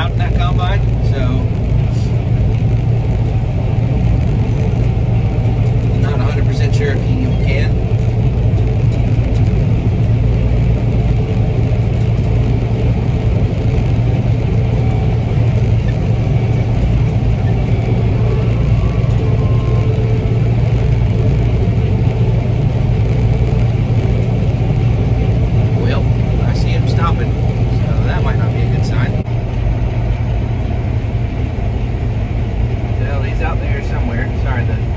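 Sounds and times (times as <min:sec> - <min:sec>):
combine engine and threshing drone: 0:00.0 - 0:34.9.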